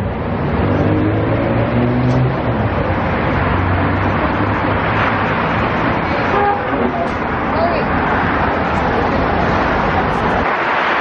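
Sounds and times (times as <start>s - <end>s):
vehicle engine humming: 0.0s - 10.8s
road traffic: 0.0s - 11.0s.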